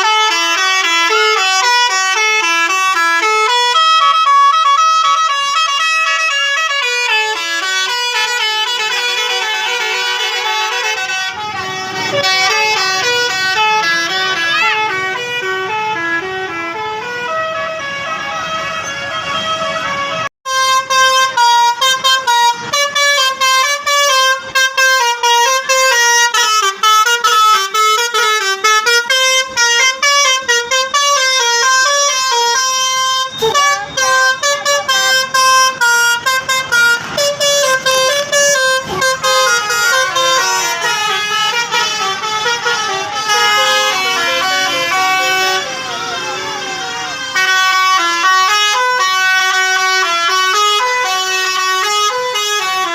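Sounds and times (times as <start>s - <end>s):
musical bus horn tune: 0.0s - 52.9s.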